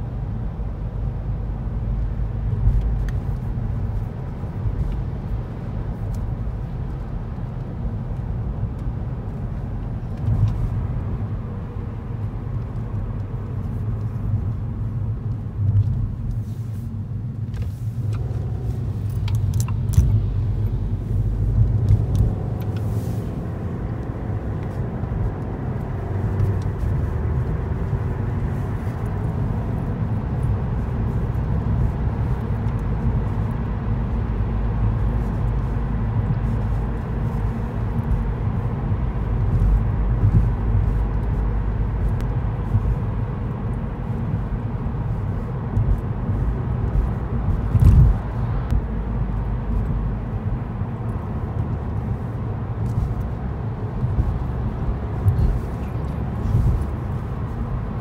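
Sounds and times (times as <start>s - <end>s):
car interior road rumble: 0.0s - 58.0s.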